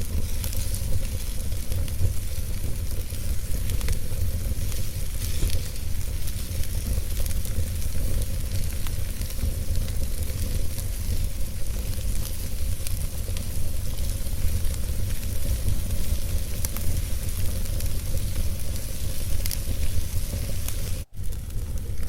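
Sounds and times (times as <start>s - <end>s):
burning wood crackling: 0.0s - 22.0s
fire flames rumbling: 0.0s - 22.0s.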